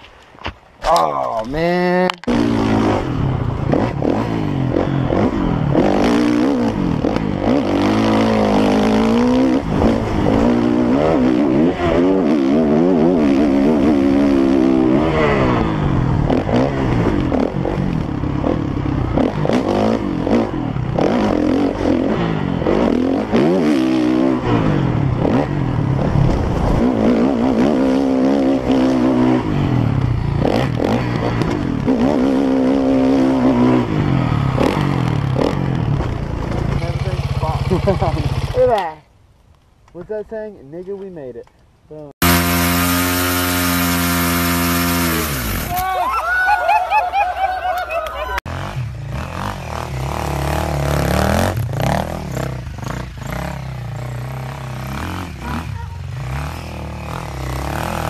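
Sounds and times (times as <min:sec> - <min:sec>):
dirt bike engine revving: 0:01.7 - 0:39.0, 0:42.2 - 0:45.9, 0:48.4 - 0:58.0.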